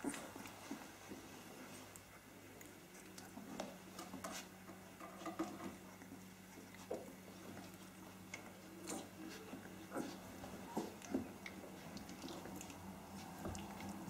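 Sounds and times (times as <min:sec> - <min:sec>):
puppies scuffling on bedding: 0:00.0 - 0:14.0.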